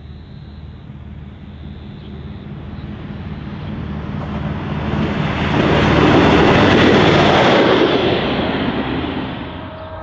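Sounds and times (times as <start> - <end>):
diesel railcar engine drone: 0.0 - 10.0
wheel-on-rail noise: 0.0 - 10.0.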